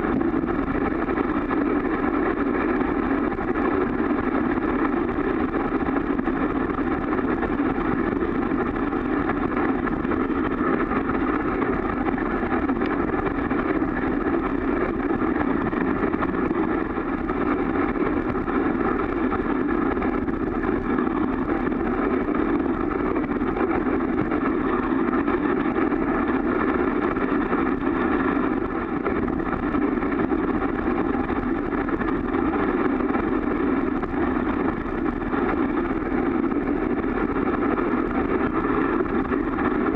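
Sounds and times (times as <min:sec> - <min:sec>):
muffled wind on camera: 0:00.0 - 0:39.9.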